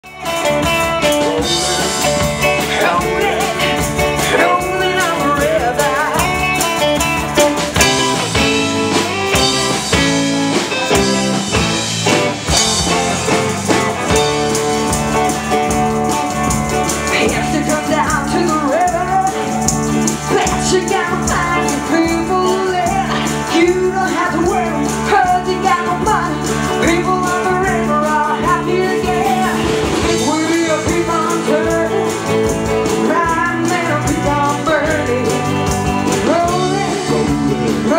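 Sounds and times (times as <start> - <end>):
person singing: 0.0 - 10.1, 16.9 - 37.9
guitar: 0.0 - 37.9
live blues-rock band: 0.0 - 37.9.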